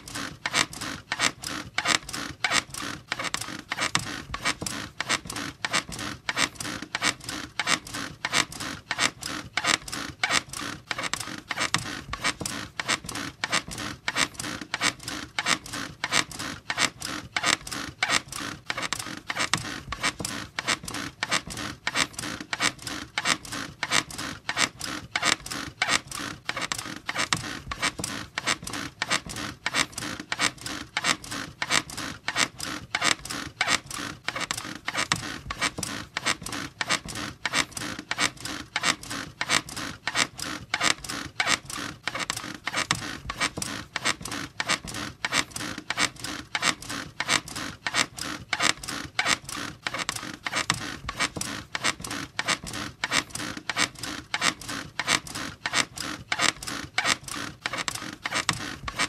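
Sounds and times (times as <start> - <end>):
bed springs squeaking: 0.0 - 59.0.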